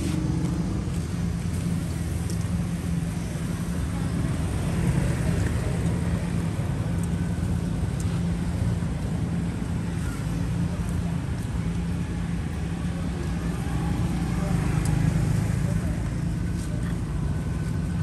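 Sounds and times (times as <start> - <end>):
low engine-like rumble: 0.0 - 18.0.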